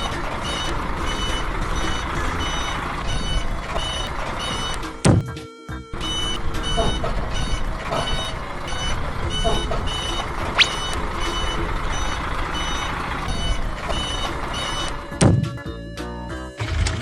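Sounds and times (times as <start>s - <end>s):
toy reversing beeper: 0.0s - 16.9s
mechanical hum: 0.0s - 17.0s
rising squeak: 0.0s - 17.0s.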